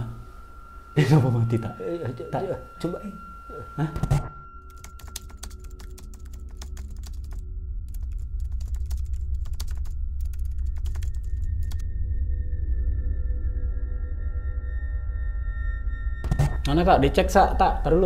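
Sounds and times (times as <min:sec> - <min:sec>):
low steady hum: 0:00.0 - 0:14.6.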